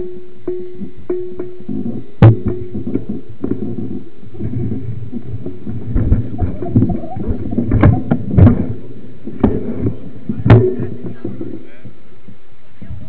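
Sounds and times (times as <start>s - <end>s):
knocks and rattles: 0.0s - 11.9s
bike riding over rough trail: 0.0s - 12.1s.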